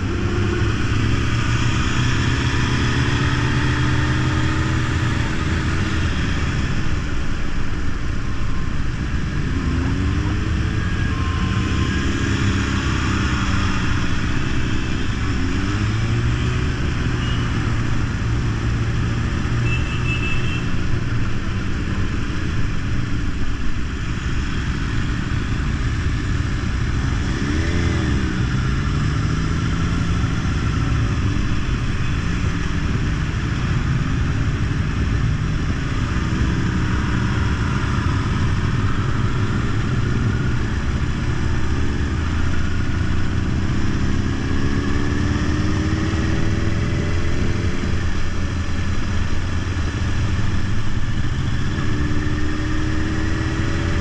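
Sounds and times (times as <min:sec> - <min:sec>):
rush of wind noise: 0:00.0 - 0:19.7, 0:20.6 - 0:54.0
motorcycle engines running: 0:00.0 - 0:54.0.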